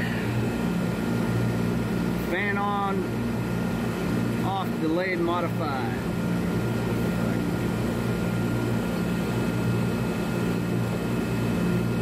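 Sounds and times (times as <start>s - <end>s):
compressor electrical hum: 0.0s - 12.0s
outdoor fan running: 0.0s - 12.0s.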